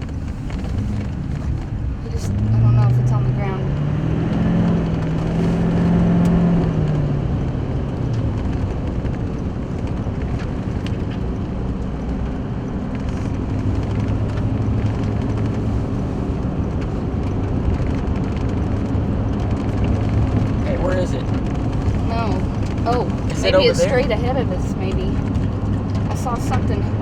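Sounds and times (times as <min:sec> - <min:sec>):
car engine: 0:00.0 - 0:27.0
road rumble: 0:00.0 - 0:27.0.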